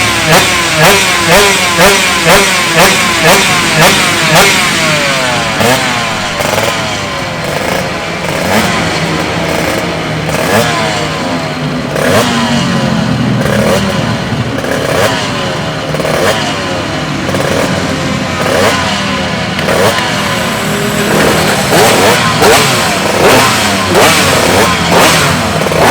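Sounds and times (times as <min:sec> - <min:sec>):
two-stroke motorcycle engine revving: 0:00.0 - 0:25.9.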